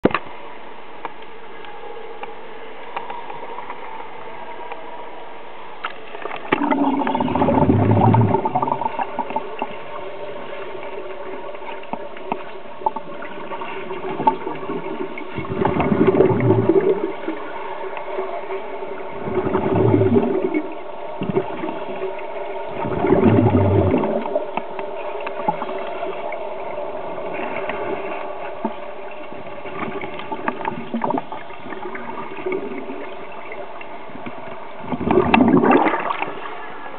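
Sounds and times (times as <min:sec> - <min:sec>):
steady hum: 0:00.0 - 0:36.9
underwater exhaust bubbles: 0:06.1 - 0:36.9.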